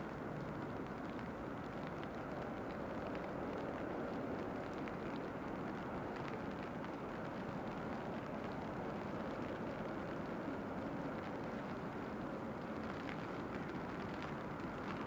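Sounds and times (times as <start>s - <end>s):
raindrop ticks: 0.0s - 15.0s.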